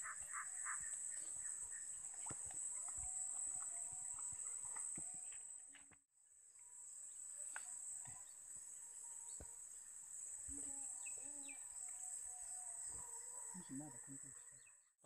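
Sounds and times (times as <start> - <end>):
faint chirps: 0.0 - 5.9, 6.6 - 14.9
insects trilling: 0.0 - 5.9, 6.5 - 14.8.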